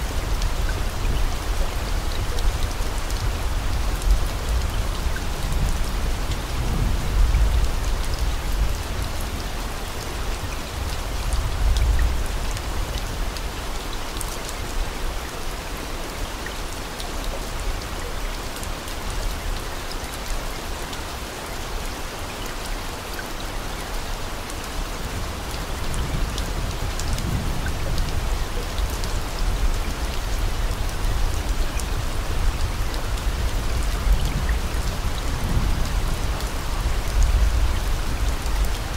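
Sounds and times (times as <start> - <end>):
dense rain pattering: 0.0 - 38.9.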